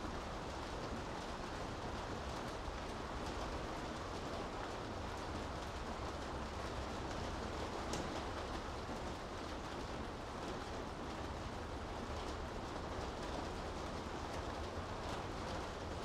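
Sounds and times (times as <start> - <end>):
steady rain on streets: 0.0 - 16.0.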